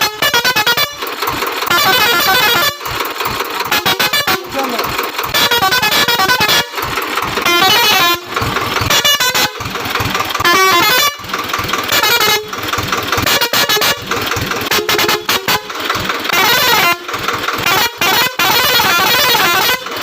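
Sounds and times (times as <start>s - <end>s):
multi-tone air horn: 0.0s - 2.8s, 3.6s - 6.8s, 7.4s - 9.7s, 10.4s - 11.3s, 11.9s - 12.5s, 13.2s - 20.0s.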